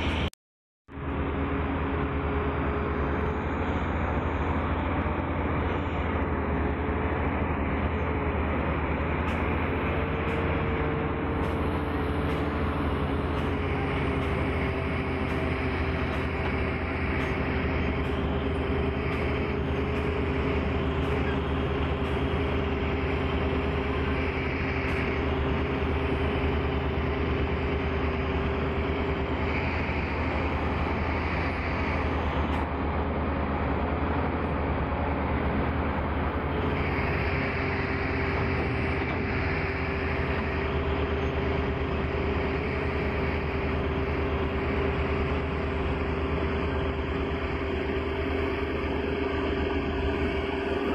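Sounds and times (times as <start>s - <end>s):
excavator diesel engine drone: 0.0s - 50.9s
high-pitched whine: 0.9s - 50.9s.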